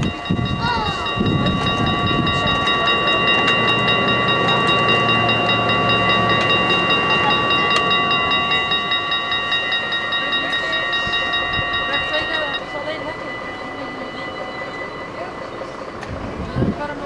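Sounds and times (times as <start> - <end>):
level crossing bells ringing: 0.0 - 17.0.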